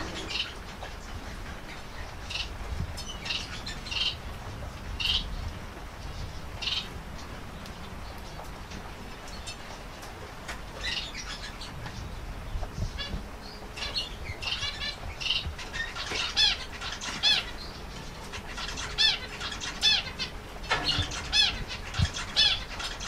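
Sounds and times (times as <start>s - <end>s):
low background hum: 0.0s - 23.0s
small birds chirping: 0.0s - 23.0s.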